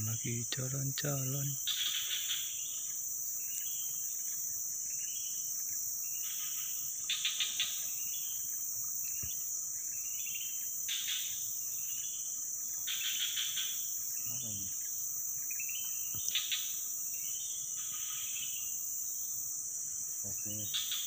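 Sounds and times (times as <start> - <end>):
high-pitched insect drone: 0.0 - 21.0
insect chirps: 0.0 - 21.0
sharp insect pulses: 0.0 - 21.0.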